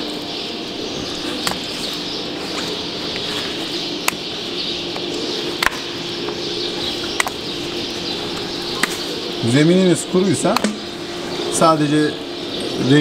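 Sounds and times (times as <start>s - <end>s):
birds chirping: 0.0s - 13.0s
steady hum: 0.0s - 13.0s.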